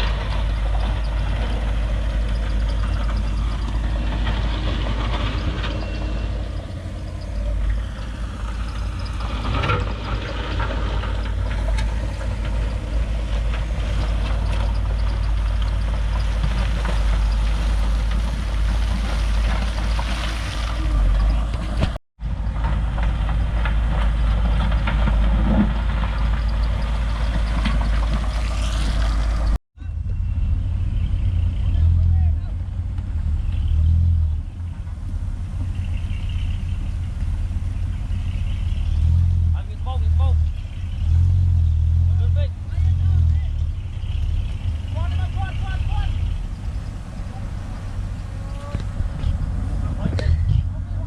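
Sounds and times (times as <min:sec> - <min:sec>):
heavy diesel engine rumble: 0:00.0 - 0:51.0.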